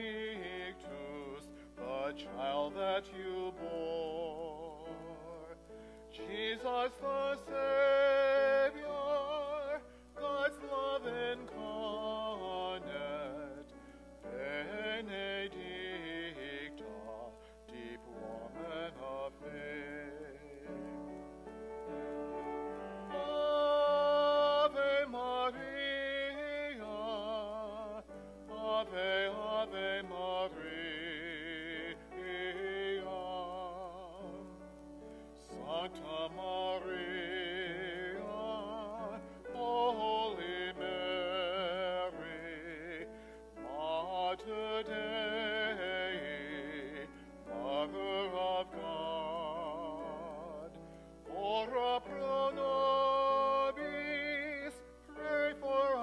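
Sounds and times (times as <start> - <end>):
person singing a hymn: 0.0 - 56.0.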